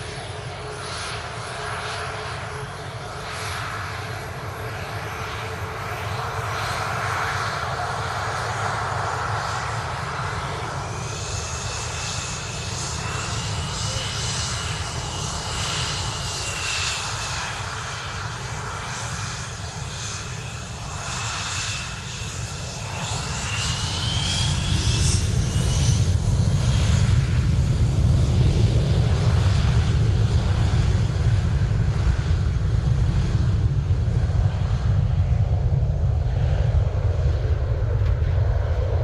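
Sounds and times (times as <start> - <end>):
jet engines whining and rumbling: 0.0 - 39.0.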